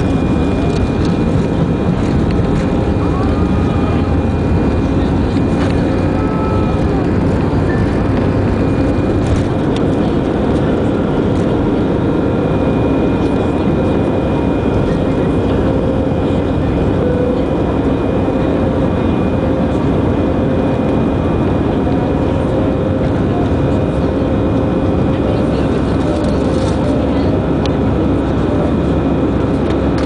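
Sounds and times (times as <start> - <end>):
jet engines at takeoff thrust: 0.0 - 30.0.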